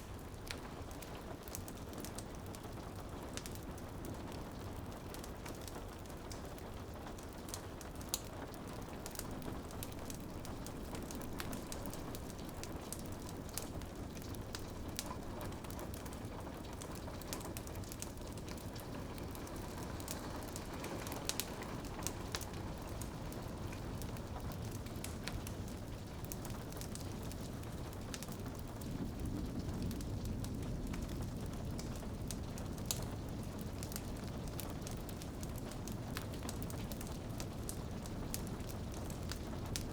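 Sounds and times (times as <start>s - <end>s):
rain on a window: 0.0s - 39.9s
wood fire crackling and popping: 0.0s - 39.9s.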